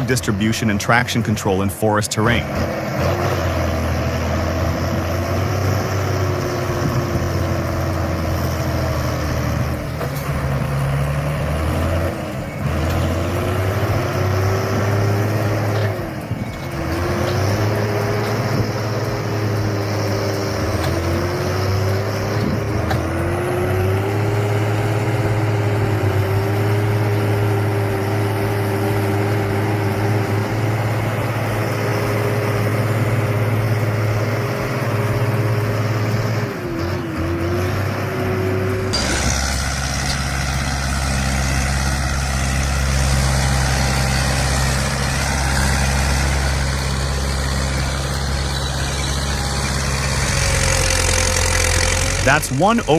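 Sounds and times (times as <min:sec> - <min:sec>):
tractor diesel engine running hard: 0:00.0 - 0:52.9.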